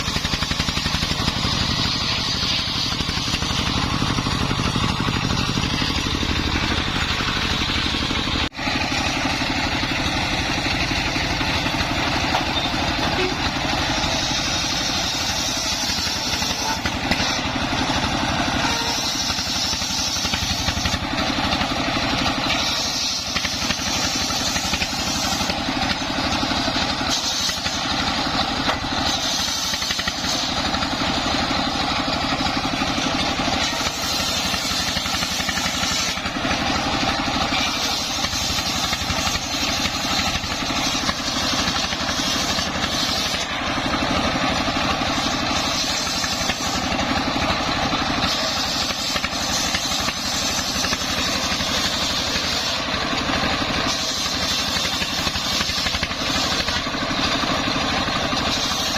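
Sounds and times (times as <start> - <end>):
circular sawmill: 0.0 - 58.9
diesel engine running under load: 0.0 - 58.9.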